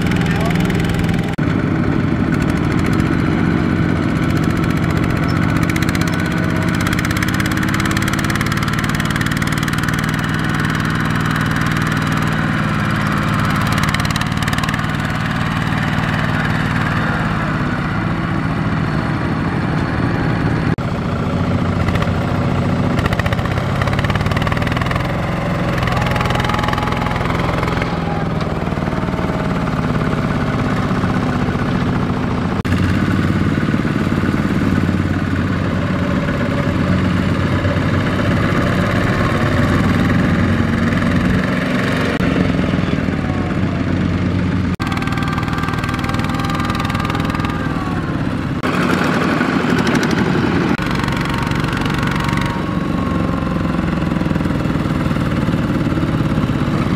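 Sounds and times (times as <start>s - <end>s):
diesel engines running under load: 0.0s - 56.9s.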